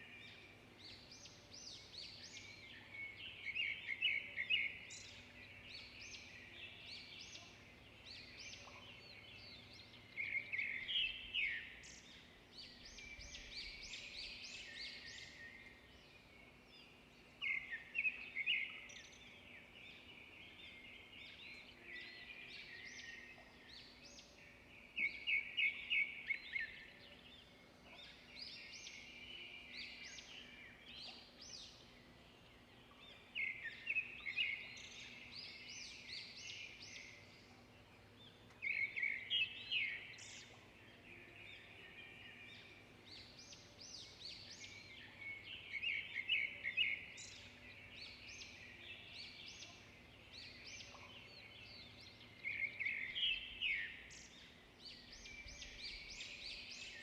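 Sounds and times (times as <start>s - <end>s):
quiet bird twittering: 0.0s - 57.0s
songbirds chirping and trilling: 0.0s - 57.0s.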